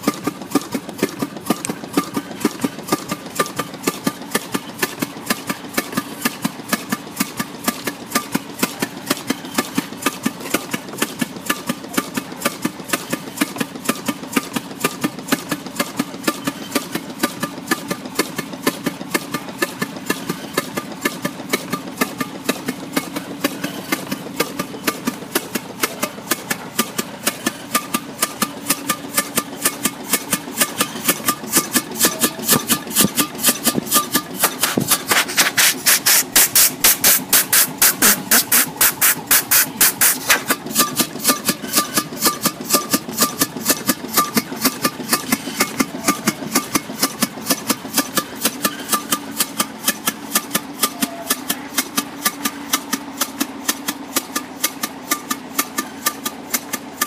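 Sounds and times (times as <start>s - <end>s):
steam engine running rhythmically: 0.0s - 57.0s.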